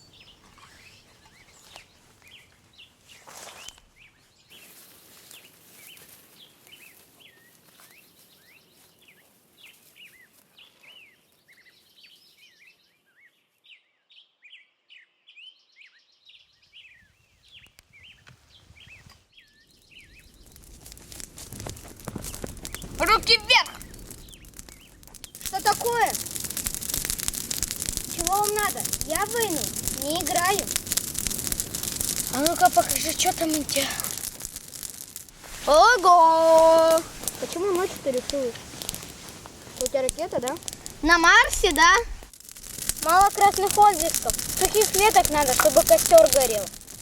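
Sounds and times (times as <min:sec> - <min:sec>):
faint birds chirping: 0:00.0 - 0:42.0.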